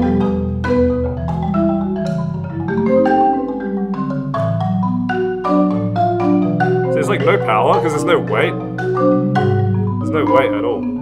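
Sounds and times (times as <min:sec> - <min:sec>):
marimba played with mallets: 0:00.0 - 0:11.0.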